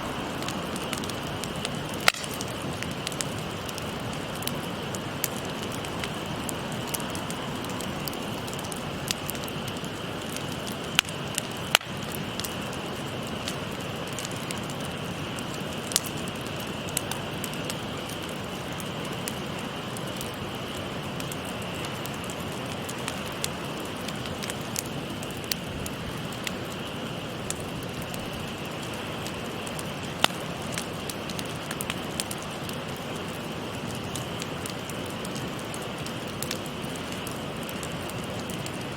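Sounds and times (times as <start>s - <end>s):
fire popping: 0.0s - 38.9s
wood fire crackling: 0.0s - 38.9s.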